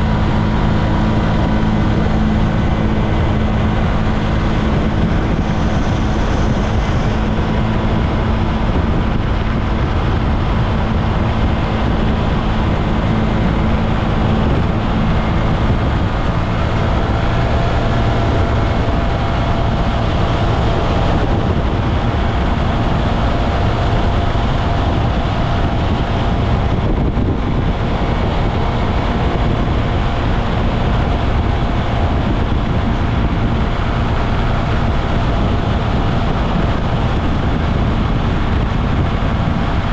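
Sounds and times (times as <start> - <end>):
scooter engine drone: 0.0 - 39.9
wind on microphone: 0.0 - 39.9.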